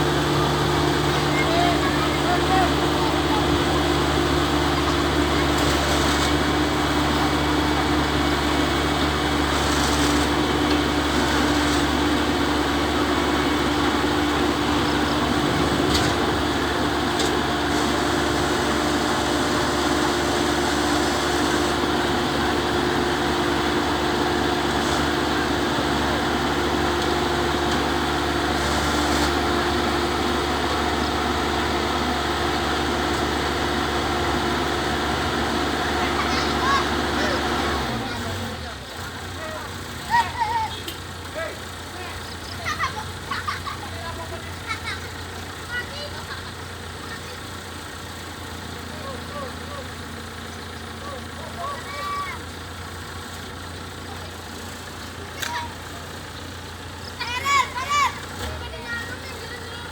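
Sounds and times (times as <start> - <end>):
rice thresher machine drone: 0.0 - 59.9.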